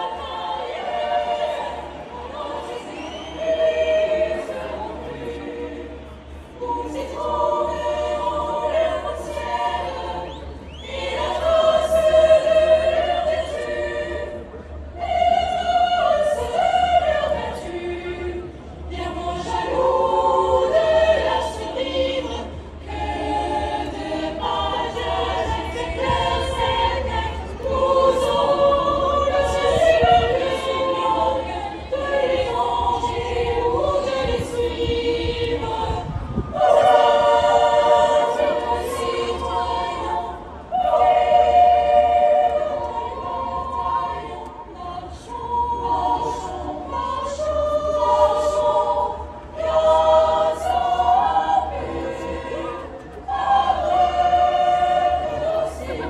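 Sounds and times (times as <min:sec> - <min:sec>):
choir singing with orchestra: 0:00.0 - 0:56.0.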